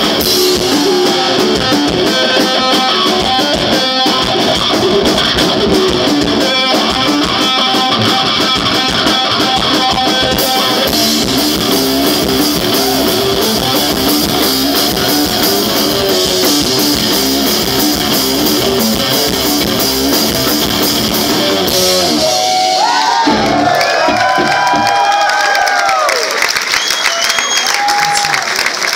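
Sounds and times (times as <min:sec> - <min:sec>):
drum kit with cymbals: 0:00.0 - 0:24.5
distorted electric guitar riff: 0:00.0 - 0:24.9.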